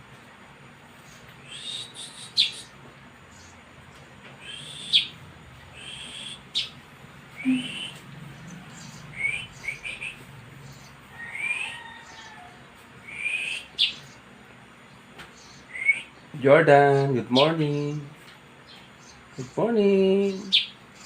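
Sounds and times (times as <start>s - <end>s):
bird chick chirping: 1.0s - 3.6s, 4.4s - 21.0s.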